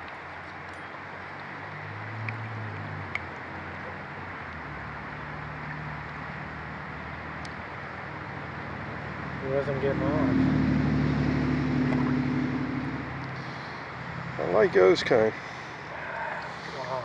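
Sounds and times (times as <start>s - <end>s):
river current rushing: 0.0s - 17.0s.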